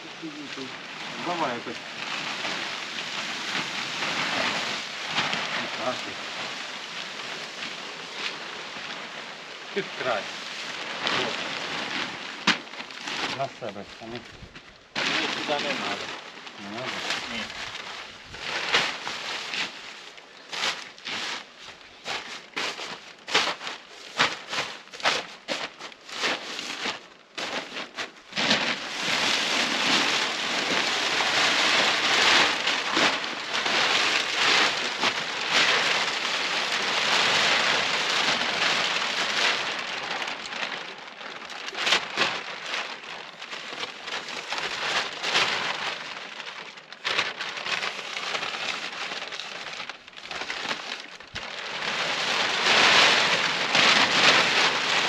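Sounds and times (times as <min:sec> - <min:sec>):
plastic film crinkling and rustling: 0:00.0 - 0:55.0.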